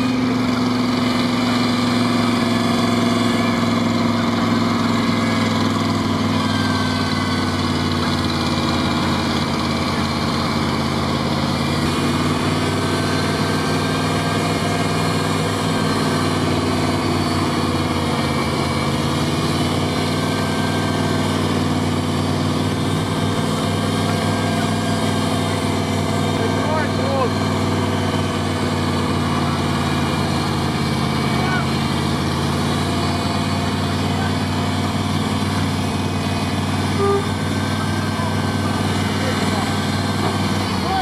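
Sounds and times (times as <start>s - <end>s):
engine running at low revs: 0.0s - 41.0s.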